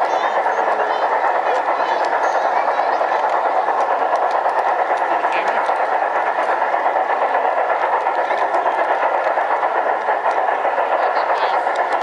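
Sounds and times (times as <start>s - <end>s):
model train cars rolling: 0.0s - 12.0s
wheels clicking: 0.0s - 12.0s.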